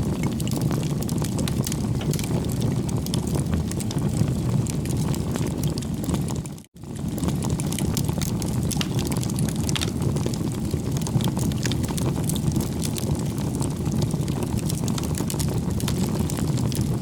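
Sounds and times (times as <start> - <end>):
bonfire flames rushing: 0.0 - 17.0
burning wood crackling: 0.0 - 17.0.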